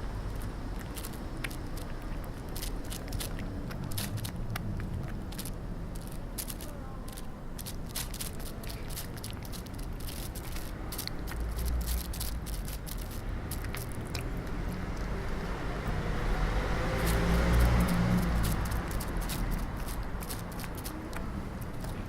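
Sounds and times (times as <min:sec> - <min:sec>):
road traffic rumble: 0:00.0 - 0:22.0
dry leaves crunching underfoot: 0:00.8 - 0:22.0.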